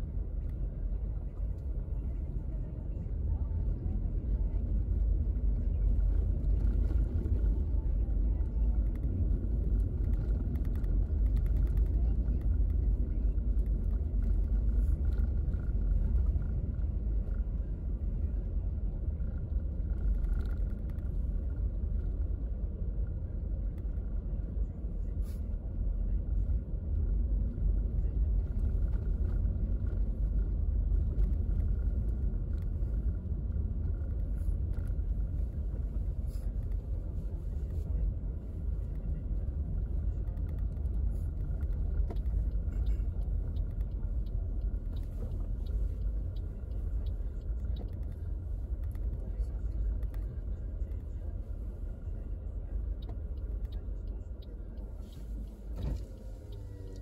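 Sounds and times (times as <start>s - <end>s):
tyre and engine rumble: 0.0s - 57.0s.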